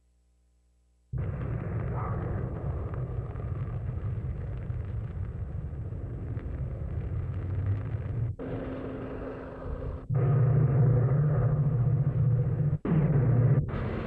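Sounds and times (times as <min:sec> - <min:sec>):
low outdoor rumble: 0:01.1 - 0:14.0.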